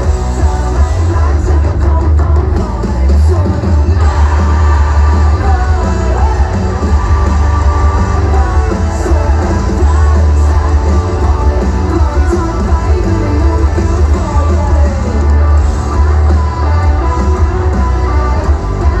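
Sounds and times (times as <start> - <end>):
electric guitars: 0.0 - 19.0
person singing: 0.0 - 19.0
rock band playing live: 0.0 - 19.0
strong bass: 0.0 - 19.0.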